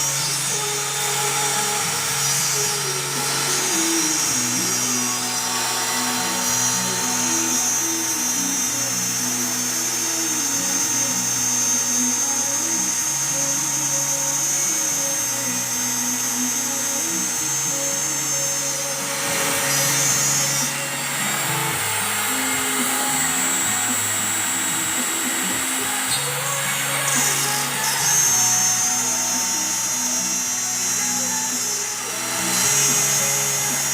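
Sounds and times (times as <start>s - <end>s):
background music: 0.0s - 33.9s
router cutting panel: 0.0s - 33.9s.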